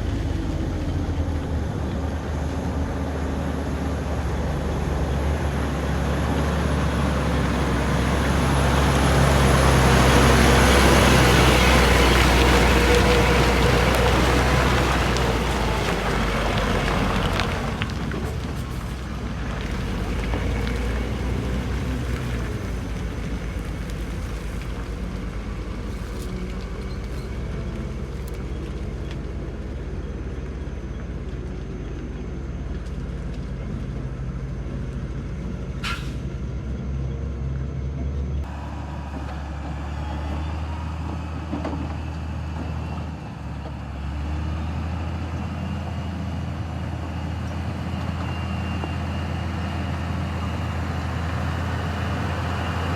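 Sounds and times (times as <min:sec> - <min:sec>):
truck diesel engine under load: 0:00.0 - 0:52.9.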